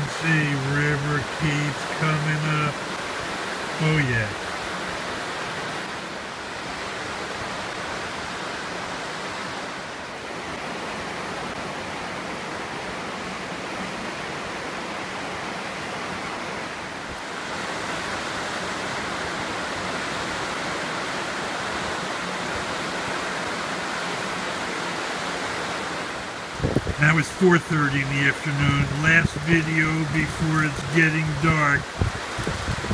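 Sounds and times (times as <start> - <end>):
river rushing over rocks: 0.0 - 32.9.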